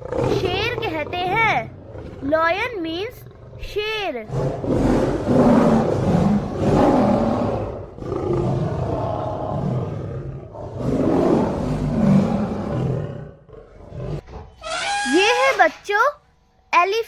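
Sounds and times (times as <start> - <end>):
lion roaring: 0.0 - 14.6.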